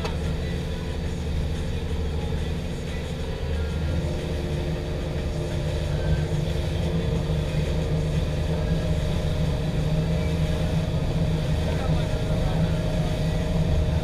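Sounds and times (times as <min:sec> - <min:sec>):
outboard engine running: 0:00.0 - 0:14.0.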